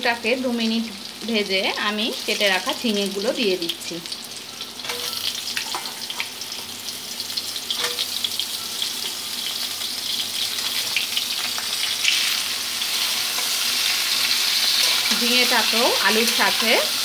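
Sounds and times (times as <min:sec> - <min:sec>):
oil sizzling: 0:00.0 - 0:17.0.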